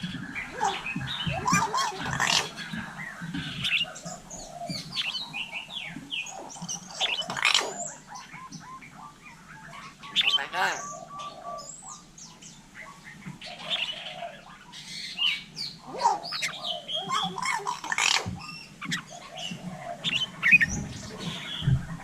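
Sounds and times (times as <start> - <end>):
myna bird calling: 0.0 - 22.0.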